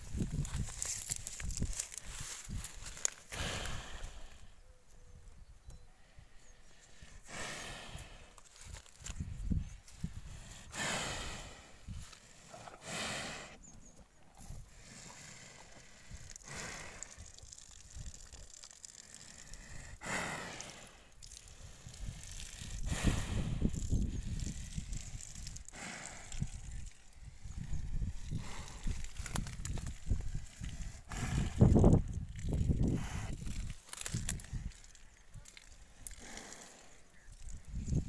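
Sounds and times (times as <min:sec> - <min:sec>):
water buffalo breathing: 0:00.1 - 0:04.6, 0:05.8 - 0:38.0.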